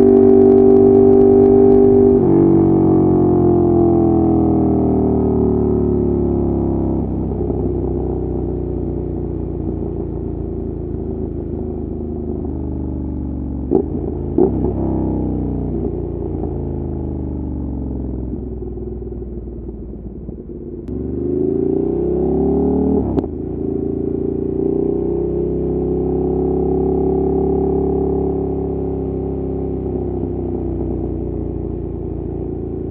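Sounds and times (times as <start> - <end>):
motorcycle engine and exhaust: 0.0 - 32.9.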